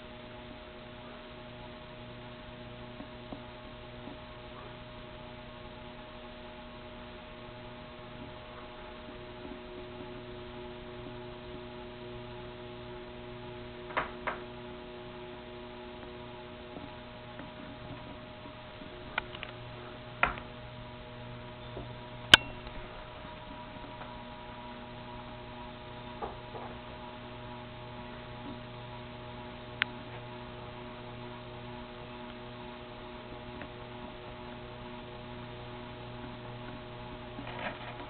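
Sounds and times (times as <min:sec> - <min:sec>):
ceiling fan motor humming: 0:00.0 - 0:38.0.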